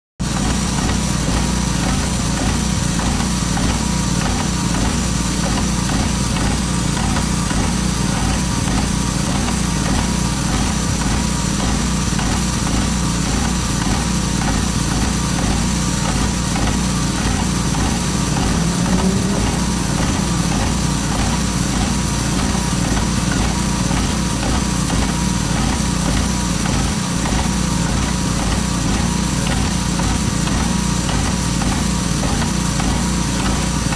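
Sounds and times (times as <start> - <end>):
paint spraying hiss: 0.2 - 33.9
small engine and pump pulsing: 0.2 - 33.9.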